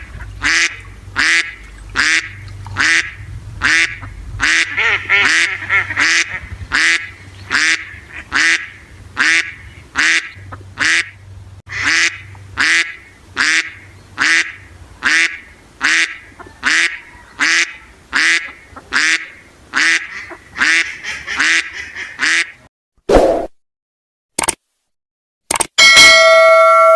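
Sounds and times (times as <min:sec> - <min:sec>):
duck quacking: 0:00.0 - 0:22.7.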